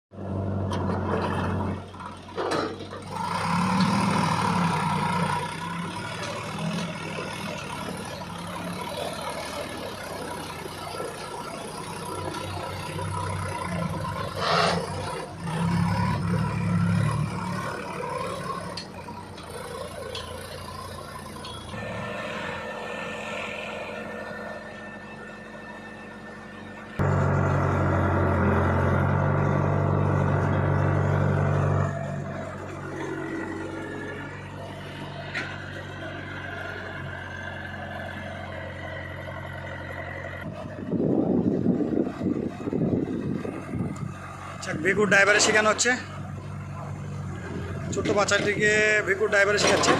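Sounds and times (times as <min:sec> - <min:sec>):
heavy diesel engine working: 0:00.1 - 0:49.9.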